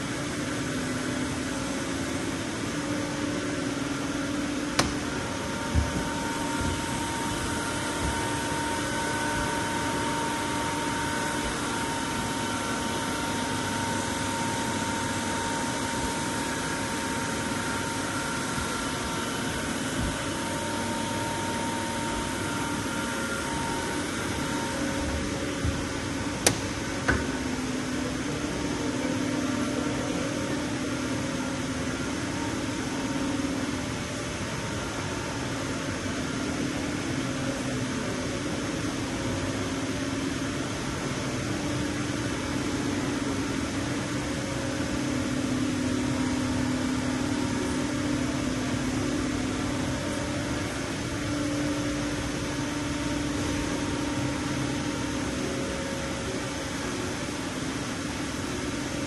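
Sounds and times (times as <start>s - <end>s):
milling machine humming: 0.0s - 59.0s.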